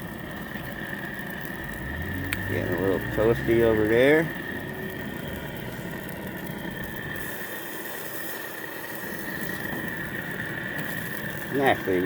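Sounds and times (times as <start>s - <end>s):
burgers sizzling: 0.0s - 12.0s
gas grill burning: 0.0s - 12.0s.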